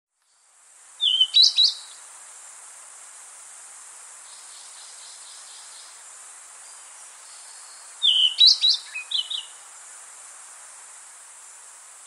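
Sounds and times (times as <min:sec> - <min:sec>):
steady hiss: 0:00.2 - 0:12.0.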